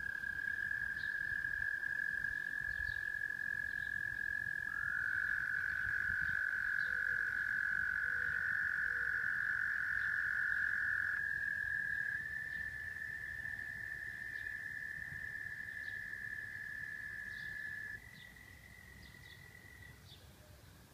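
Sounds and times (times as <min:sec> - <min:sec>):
frogs trilling: 0:00.0 - 0:20.0.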